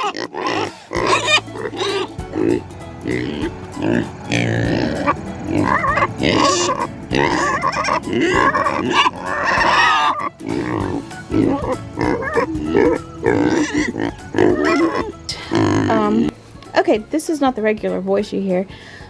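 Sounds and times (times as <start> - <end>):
pigs grunting and squealing: 0.0 - 16.3
music playing: 0.0 - 19.0.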